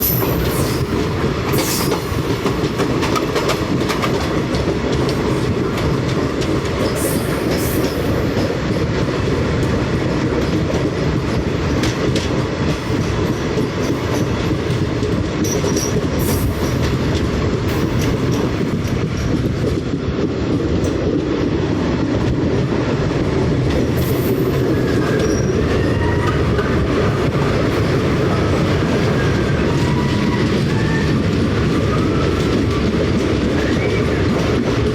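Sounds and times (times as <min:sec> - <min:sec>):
train rumbling along track: 0:00.0 - 0:34.9.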